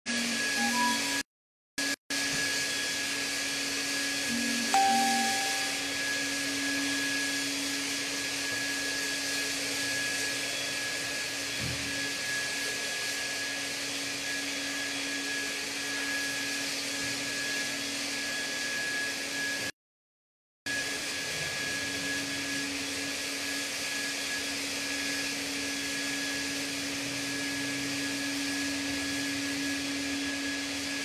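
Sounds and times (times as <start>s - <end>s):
sprayer motor whine: 0.1s - 1.2s, 1.8s - 19.7s, 20.7s - 31.0s.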